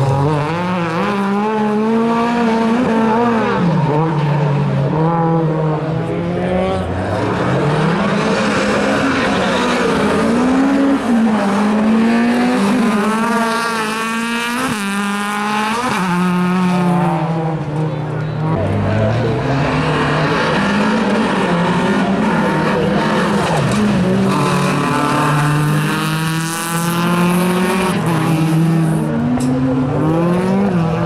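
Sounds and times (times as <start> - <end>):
rally car engine revving: 0.0 - 31.0.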